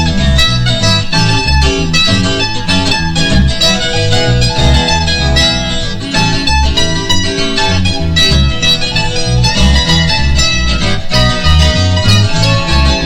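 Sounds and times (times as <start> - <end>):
acoustic guitar picking: 0.0 - 13.0
bass line: 0.0 - 13.0
mandolin picking: 0.0 - 13.0.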